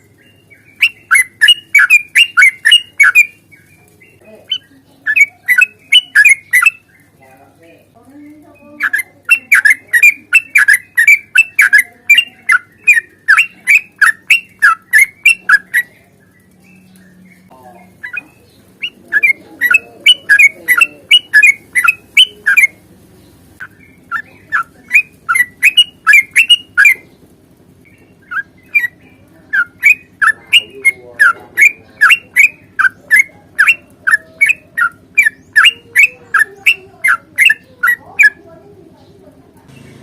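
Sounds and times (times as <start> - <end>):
bulbul chattering song: 0.0 - 40.0.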